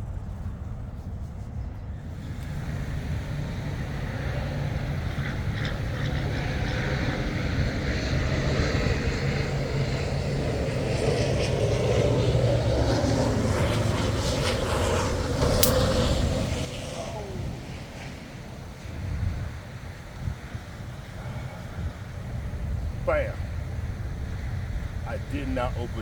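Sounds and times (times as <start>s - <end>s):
vehicle engine droning: 1.9s - 26.0s.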